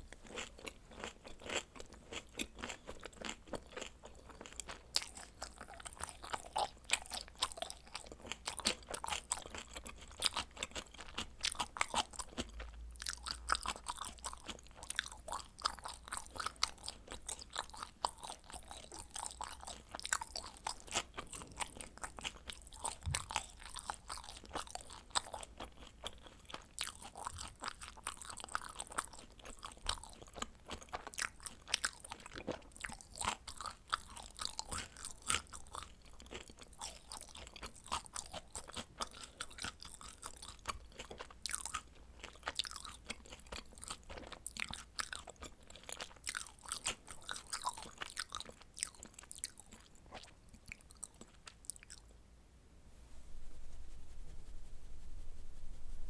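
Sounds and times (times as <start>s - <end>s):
chewing crisp pizza crust: 0.1s - 52.1s.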